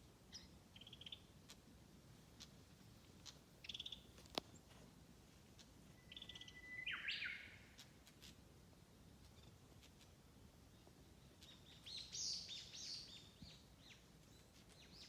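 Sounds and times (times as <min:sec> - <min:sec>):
songbirds singing: 0:00.1 - 0:01.6, 0:02.3 - 0:04.8, 0:05.5 - 0:08.4, 0:09.2 - 0:15.0.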